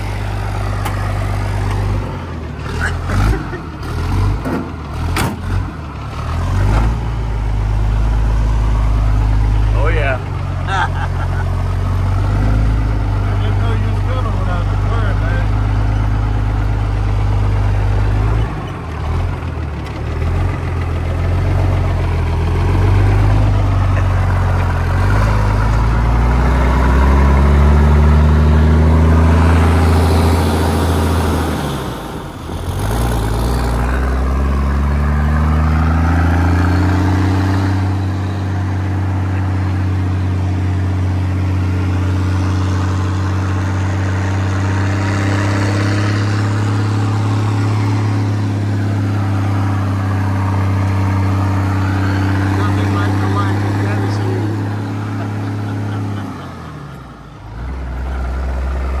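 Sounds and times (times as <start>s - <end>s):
diesel truck engine accelerating: 0.0s - 59.0s.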